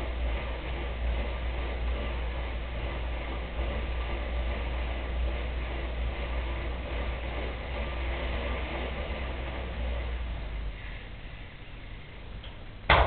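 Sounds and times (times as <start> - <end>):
bicycle tyre whirring on trainer: 0.0 - 13.0.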